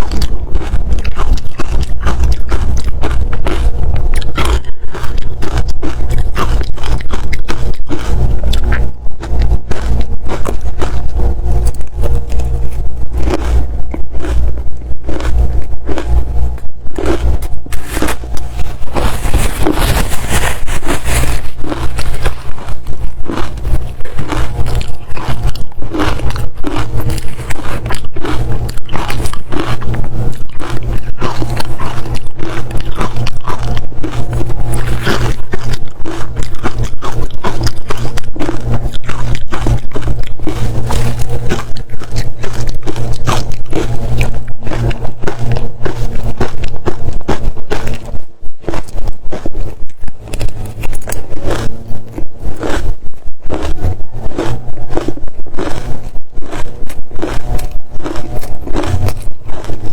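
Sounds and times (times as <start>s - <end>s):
ice being bitten and chewed: 0.0s - 59.9s.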